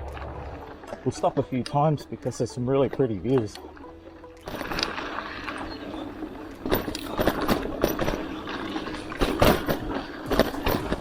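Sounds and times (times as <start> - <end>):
bike rattling over bumps: 0.0 - 11.0
bike tyres rolling on dirt: 0.0 - 11.0.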